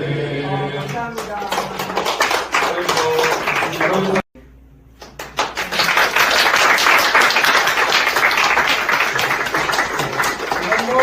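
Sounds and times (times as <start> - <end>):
people clapping and applauding: 0.8 - 4.3, 5.0 - 11.0.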